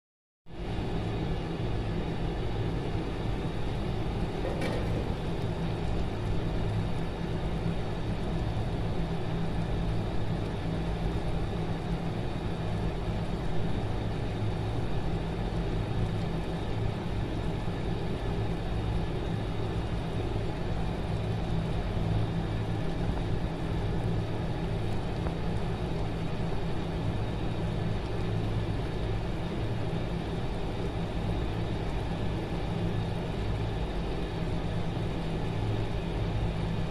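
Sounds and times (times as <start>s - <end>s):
low hum and rumble: 0.5s - 36.9s.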